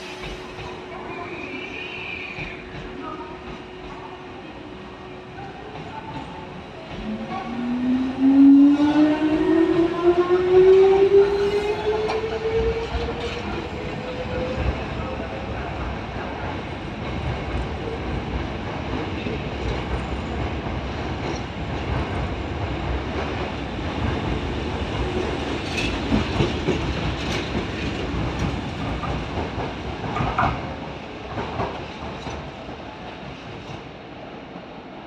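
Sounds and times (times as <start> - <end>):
train wheels rolling rumble: 5.0 - 33.9.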